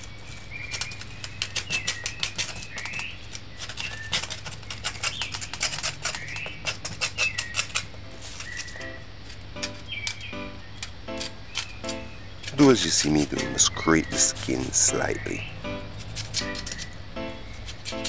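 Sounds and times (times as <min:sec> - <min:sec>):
bird chirps: 0:00.0 - 0:17.8
knife scraping pumpkin skin: 0:00.0 - 0:18.0.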